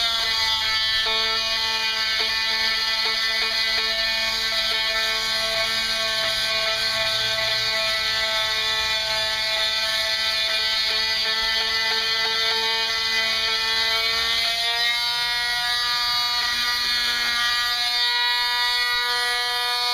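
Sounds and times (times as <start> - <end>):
electric sander buzzing: 0.0 - 19.9.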